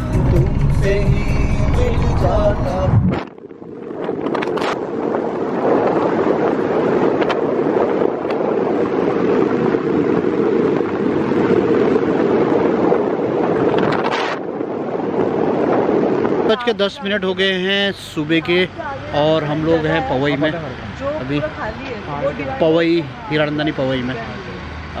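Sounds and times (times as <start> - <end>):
car tyre and wind noise: 0.0 - 25.0.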